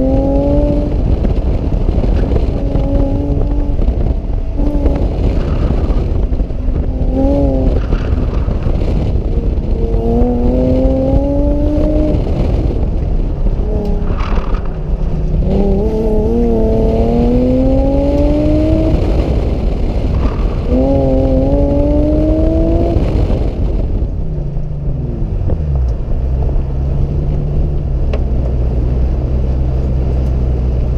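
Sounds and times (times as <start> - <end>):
car engine accelerating hard: 0.0 - 30.9.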